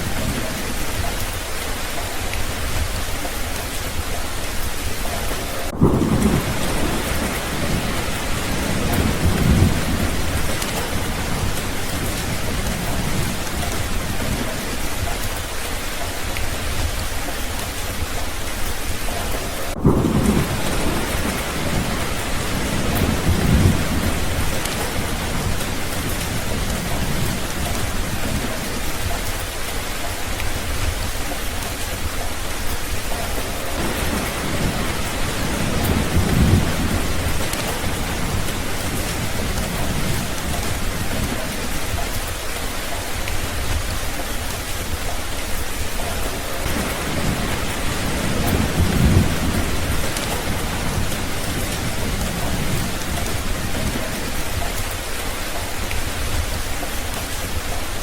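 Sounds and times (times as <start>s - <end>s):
heavy rain: 0.0s - 58.0s
rolling thunder: 2.4s - 15.2s, 18.8s - 58.0s.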